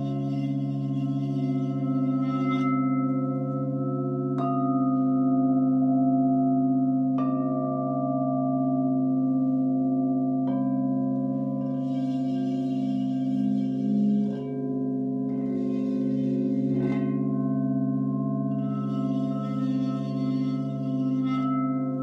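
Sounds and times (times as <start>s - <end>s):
singing bowls droning: 0.0s - 22.0s.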